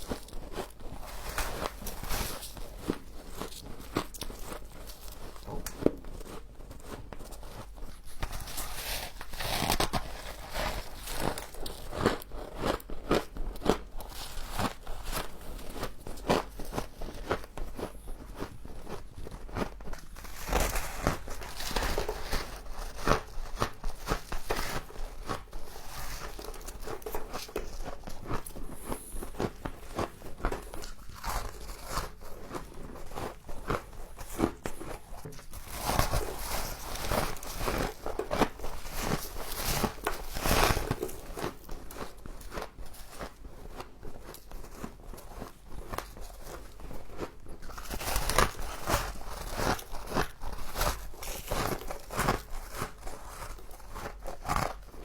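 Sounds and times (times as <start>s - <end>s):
person chewing ice crunching: 0.0s - 9.1s, 9.7s - 45.6s.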